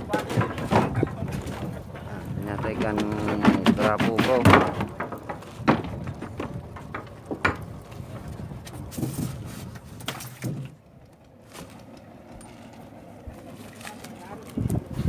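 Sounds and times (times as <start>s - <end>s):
knocks and clatter on wooden deck: 0.0s - 15.0s.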